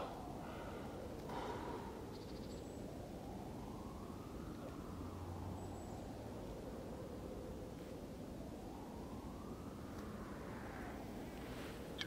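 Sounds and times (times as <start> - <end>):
distant siren wailing: 0.0 - 12.0.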